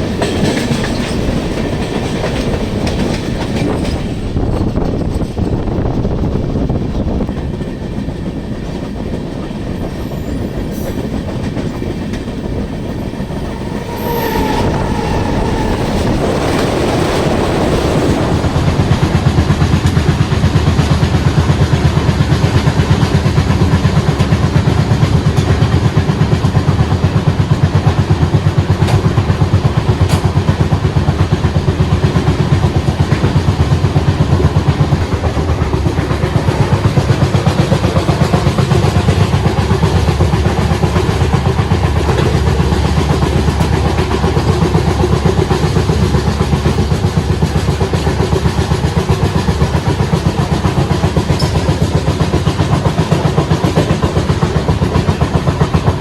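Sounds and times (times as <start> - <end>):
fast clickety-clack of wheels: 0.0 - 56.0
train wheels rumbling on rails: 0.0 - 56.0.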